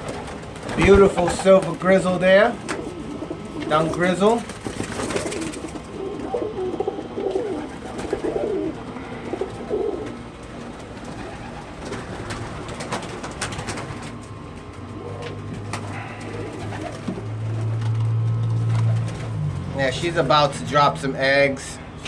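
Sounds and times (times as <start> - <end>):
low steady hum: 0.0 - 22.0
pigeons cooing: 0.0 - 22.0.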